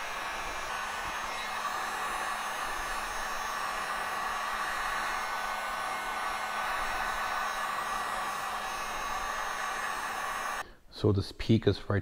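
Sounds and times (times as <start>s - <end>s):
faint motor hum: 0.0s - 10.6s
heat gun blowing air: 0.0s - 10.6s.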